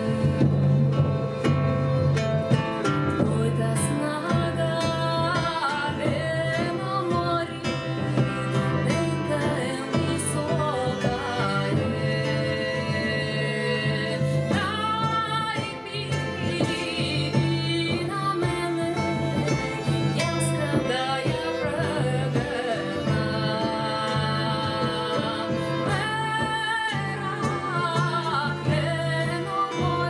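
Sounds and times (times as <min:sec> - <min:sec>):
woman singing: 0:00.0 - 0:01.3, 0:03.0 - 0:30.0
acoustic guitar: 0:00.0 - 0:30.0
bowed violins: 0:00.0 - 0:30.0.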